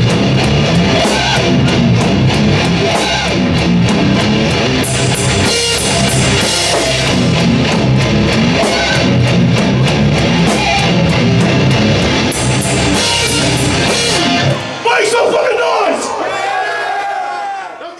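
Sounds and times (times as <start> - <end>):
distorted electric guitars: 0.0 - 15.4
pounding drum kit: 0.0 - 15.6.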